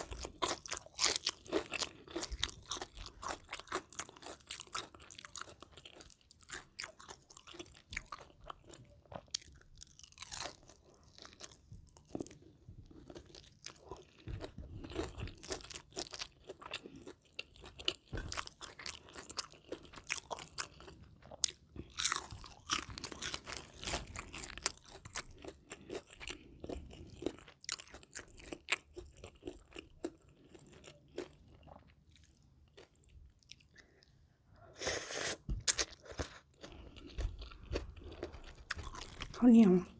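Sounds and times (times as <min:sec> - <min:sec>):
crisp crunches of food: 0:00.0 - 0:34.1, 0:35.6 - 0:39.4
chewing: 0:00.0 - 0:34.2, 0:35.6 - 0:39.9.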